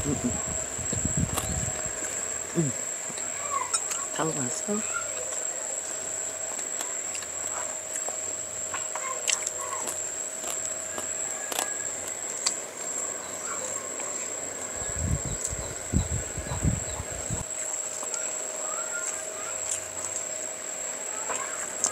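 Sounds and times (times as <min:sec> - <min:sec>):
insects droning: 0:00.0 - 0:21.9.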